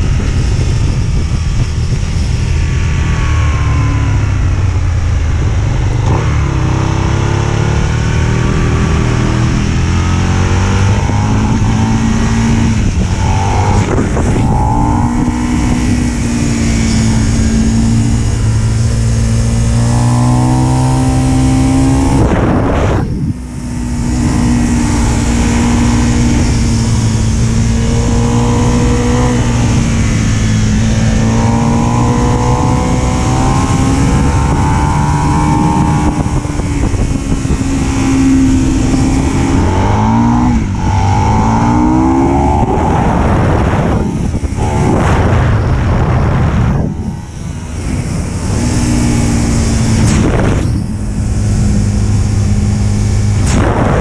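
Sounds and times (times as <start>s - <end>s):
motorcycle engine revving: 0.0s - 54.0s
wind rush on microphone: 0.0s - 54.0s.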